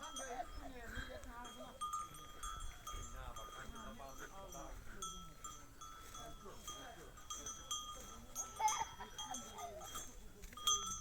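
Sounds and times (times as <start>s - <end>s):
light ringing of bells: 0.0s - 11.0s.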